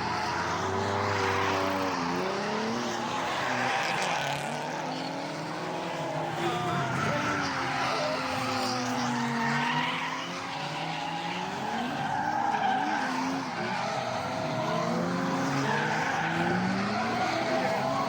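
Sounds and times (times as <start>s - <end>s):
car engines revving: 0.0s - 18.0s
tyres skidding and squealing: 0.0s - 18.0s.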